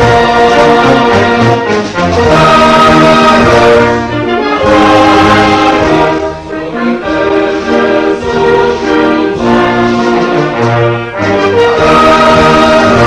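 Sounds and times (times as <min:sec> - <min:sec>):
orchestral brass music: 0:00.0 - 0:13.0.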